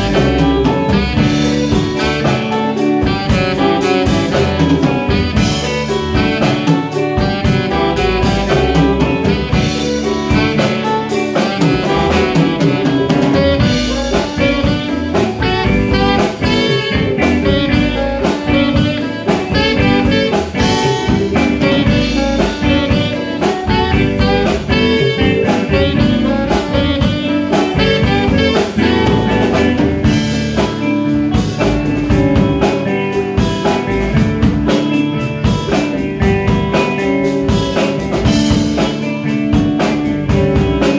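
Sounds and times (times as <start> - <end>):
drum kit: 0.0 - 40.9
electric bass: 0.0 - 40.9
electric guitar: 0.0 - 40.9
saxophones playing melody: 0.0 - 40.9.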